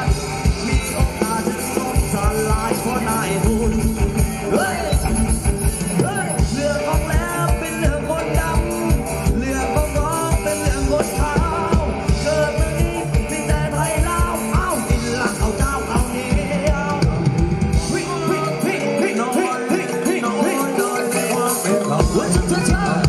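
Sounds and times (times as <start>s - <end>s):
live band playing dance music: 0.0s - 23.0s
person singing: 0.0s - 23.0s
steady drum beat: 0.0s - 23.0s.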